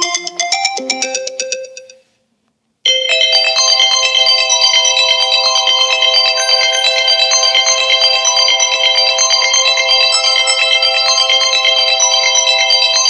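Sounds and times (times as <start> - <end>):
fast repeating high ringtone: 0.0 - 2.0, 2.9 - 13.0
phone ringtone melody: 0.0 - 2.1, 2.9 - 13.0.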